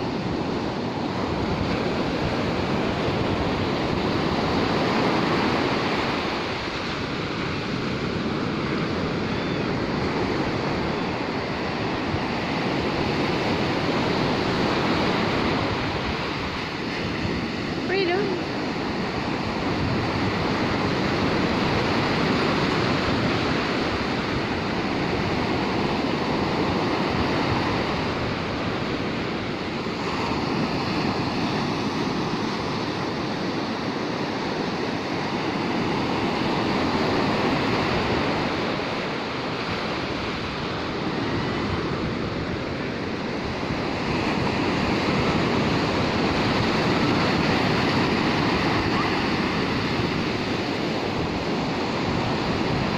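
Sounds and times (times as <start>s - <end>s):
ocean surf breaking on beach: 0.0s - 52.9s.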